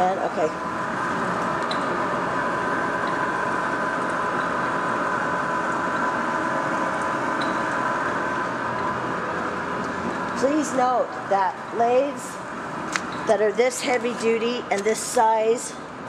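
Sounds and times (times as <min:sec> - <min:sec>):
machine shop hum with whine: 0:00.0 - 0:16.0.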